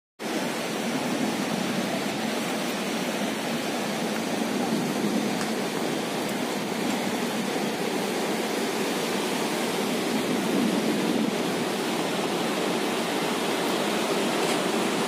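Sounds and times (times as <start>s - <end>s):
rough surf washing ashore: 0.2s - 15.0s.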